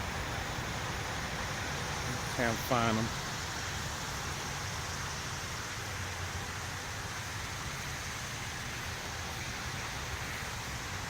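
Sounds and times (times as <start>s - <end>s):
even hiss: 0.0s - 11.0s.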